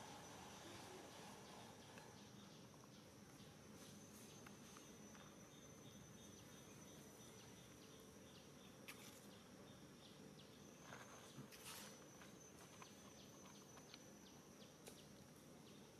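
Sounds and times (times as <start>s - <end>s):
insect high buzz: 0.0s - 15.9s.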